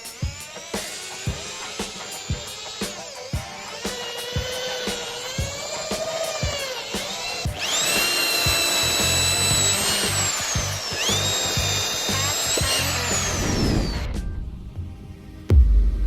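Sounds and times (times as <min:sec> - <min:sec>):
background music with beat: 0:00.0 - 0:13.4, 0:15.5 - 0:16.0
impact drill motor whine: 0:00.0 - 0:14.5.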